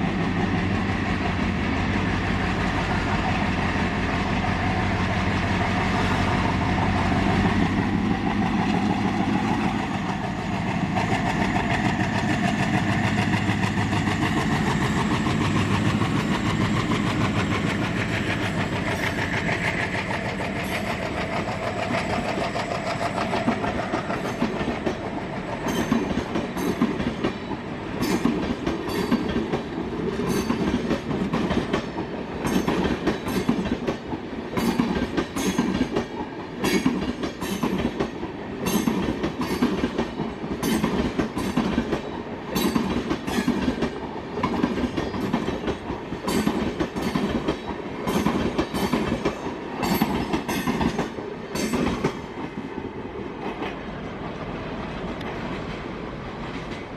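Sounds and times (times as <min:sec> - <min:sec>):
train rumble: 0:00.0 - 0:56.9
train wheels clicking over joints: 0:03.6 - 0:56.9.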